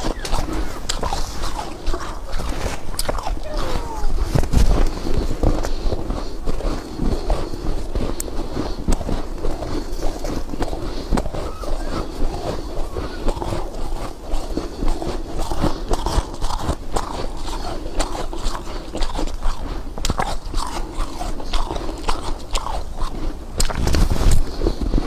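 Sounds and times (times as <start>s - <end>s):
ice being chewed: 0.0s - 25.0s.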